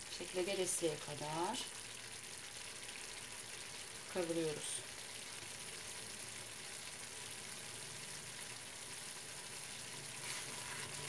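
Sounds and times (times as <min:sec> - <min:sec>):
mixture sizzling in frying pan: 0:00.0 - 0:11.0.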